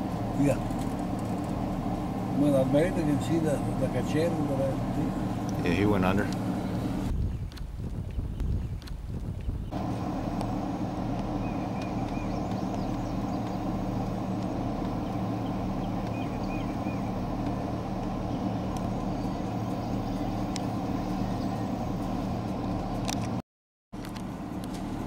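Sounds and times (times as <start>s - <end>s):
vehicle engine droning: 0.0s - 7.2s, 9.6s - 23.4s, 24.0s - 25.0s.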